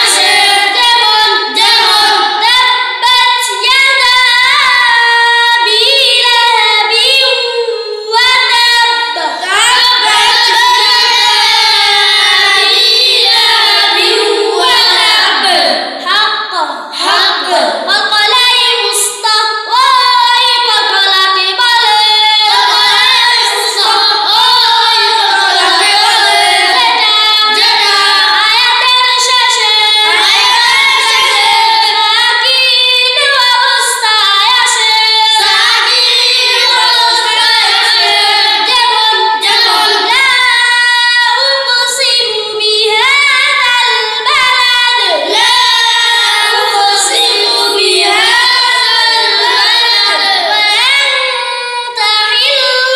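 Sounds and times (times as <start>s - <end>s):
child chanting melodically: 0.0s - 52.9s.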